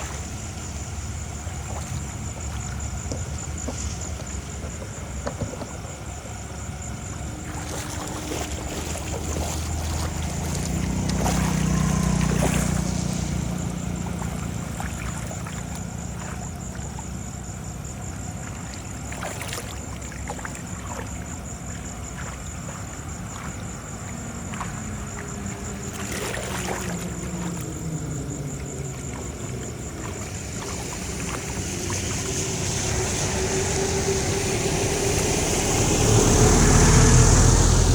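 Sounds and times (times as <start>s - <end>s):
engine running: 0.0s - 37.9s.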